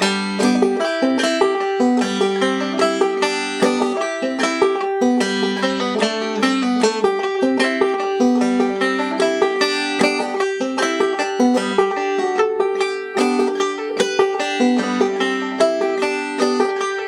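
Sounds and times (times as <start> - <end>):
banjo plucked notes: 0.0 - 17.0.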